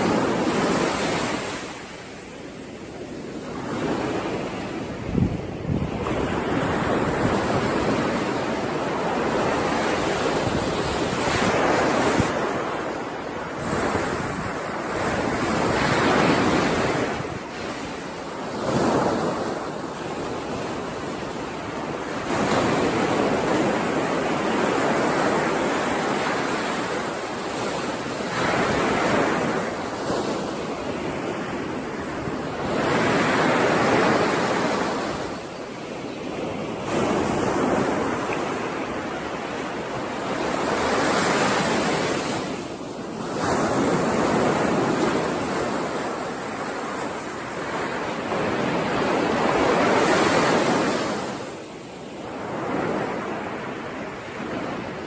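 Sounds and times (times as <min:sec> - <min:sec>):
sea waves rolling in: 0:00.0 - 0:55.0.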